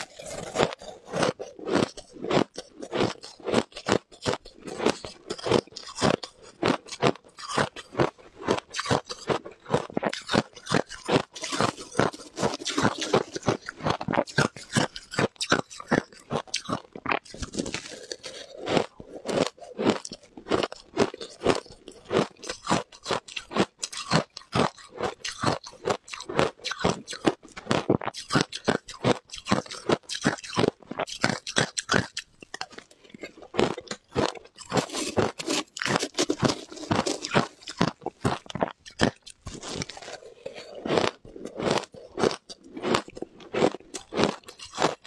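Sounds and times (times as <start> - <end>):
ice crunching and chewing: 0.0 - 45.0.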